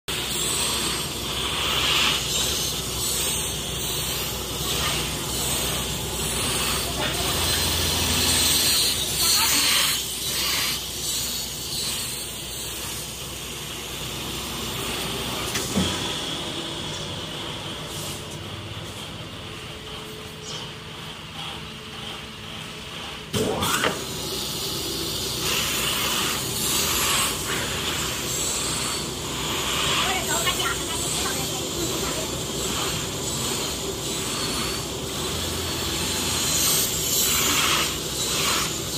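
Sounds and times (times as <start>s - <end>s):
cutting machine running: 0.1s - 38.9s.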